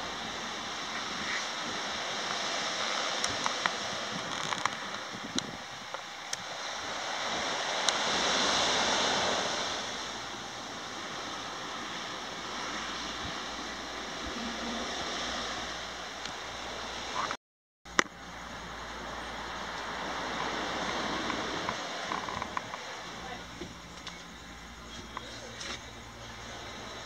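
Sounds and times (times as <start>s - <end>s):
small waves washing on beach: 0.0s - 17.4s, 18.0s - 27.0s.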